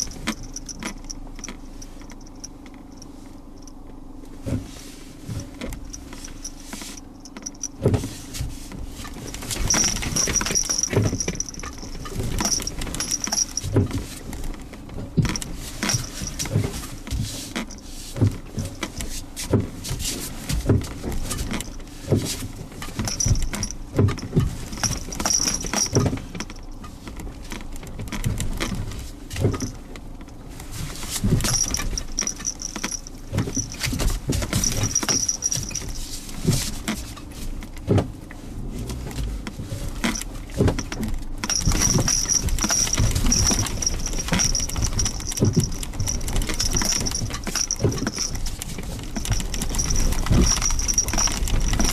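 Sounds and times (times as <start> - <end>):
knocks clunks and rattles: 0.0 - 4.7, 5.3 - 51.9
car engine hum: 0.0 - 51.9.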